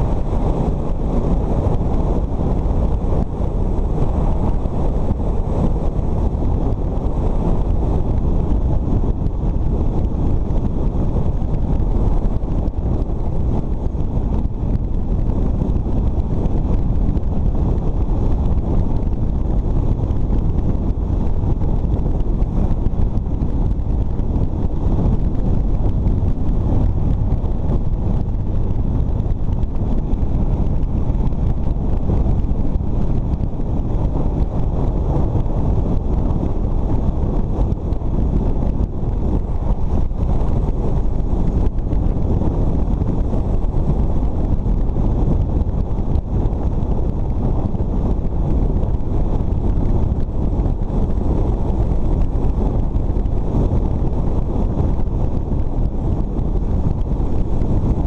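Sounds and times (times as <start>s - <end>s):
motorcycle engine and tyre noise: 0.0s - 58.0s
wind buffeting microphone: 0.0s - 58.0s.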